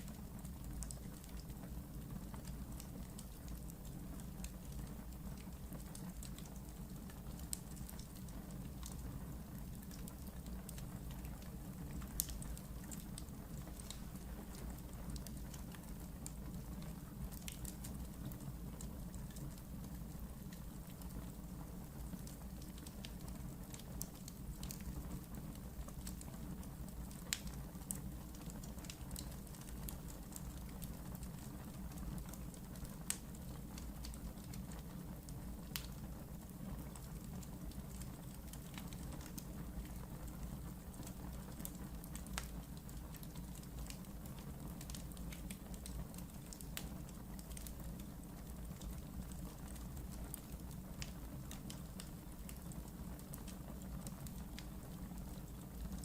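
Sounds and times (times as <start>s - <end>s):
fire crackles and pops: 0.0s - 56.0s
wood fire burning: 0.0s - 56.0s.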